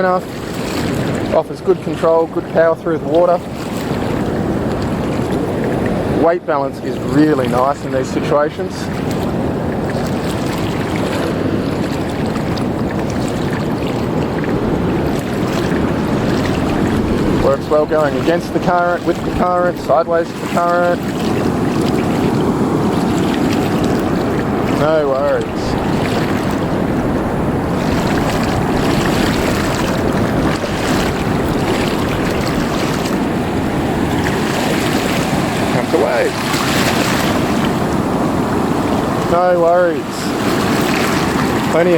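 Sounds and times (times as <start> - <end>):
wind on microphone: 0.0 - 6.2, 7.0 - 41.9
surf water moving: 0.0 - 41.9.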